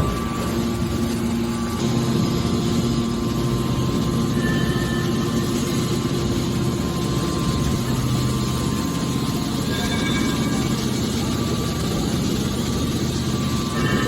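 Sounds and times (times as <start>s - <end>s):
metal baler mechanical hum: 0.0s - 14.0s.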